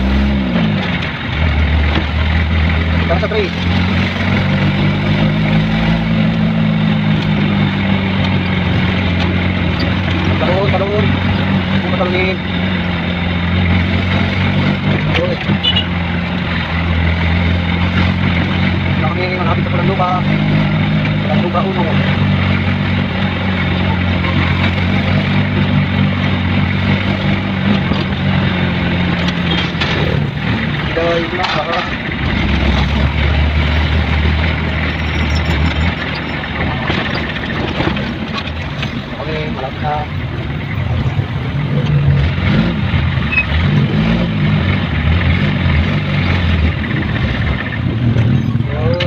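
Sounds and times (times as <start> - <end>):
road noise: 0.0 - 49.0
vehicle engine humming: 0.0 - 49.0.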